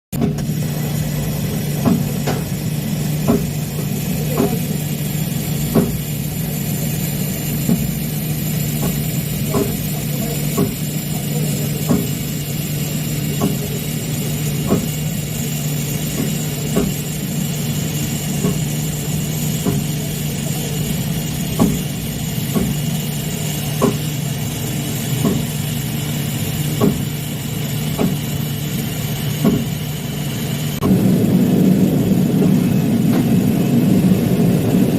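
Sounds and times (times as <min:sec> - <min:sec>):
welding hum with high whine: 0:00.2 - 0:34.9.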